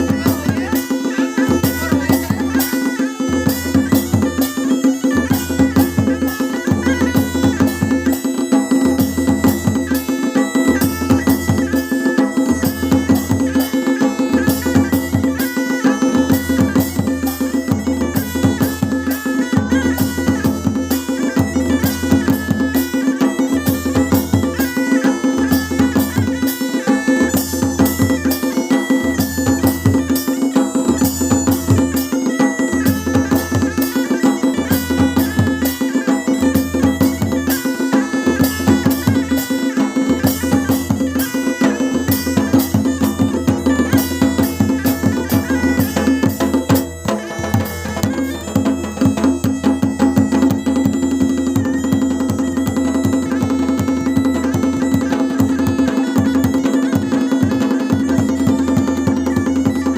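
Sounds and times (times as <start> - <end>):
bagpipe melody with drone: 0.0 - 59.9
drums beating a dense rhythm: 0.0 - 59.9.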